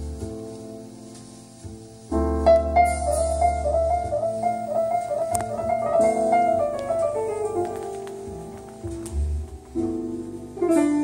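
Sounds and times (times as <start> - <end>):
piano music through speakers: 0.0 - 11.0.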